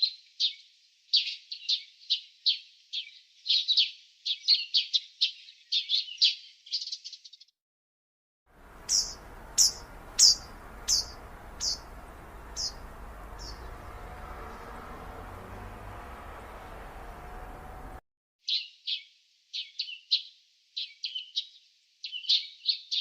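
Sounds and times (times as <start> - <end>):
small birds chirping: 0.0 - 7.5, 8.6 - 23.0.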